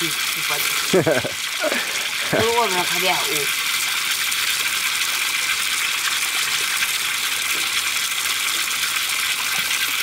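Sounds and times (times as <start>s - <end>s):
water pouring into a pot: 0.0s - 10.0s.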